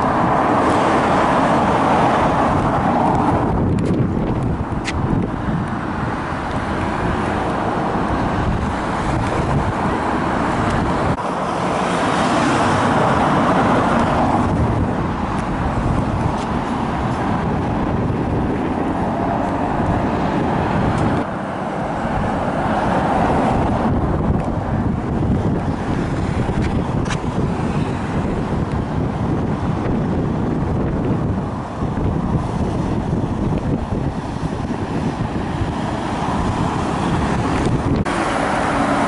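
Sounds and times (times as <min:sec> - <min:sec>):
cars driving past: 0:00.0 - 0:39.0.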